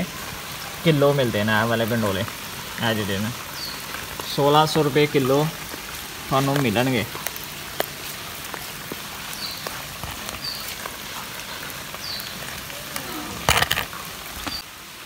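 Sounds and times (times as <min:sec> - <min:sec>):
rain on wet brick paving: 0:00.0 - 0:15.0.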